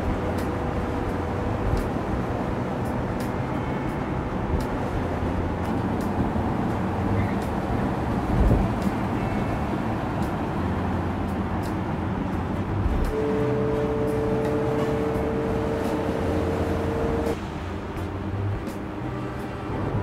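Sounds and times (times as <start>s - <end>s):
cars driving on road: 0.0s - 20.0s.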